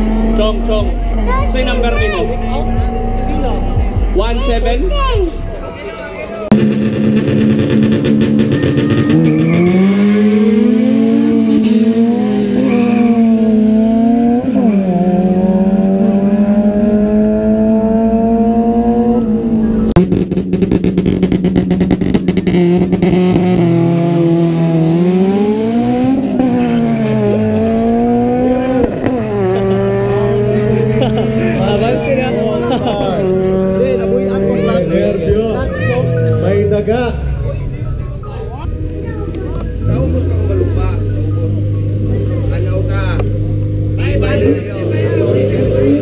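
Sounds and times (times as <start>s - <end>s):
car engine revving hard: 0.0s - 5.0s, 6.5s - 37.2s, 38.6s - 46.0s.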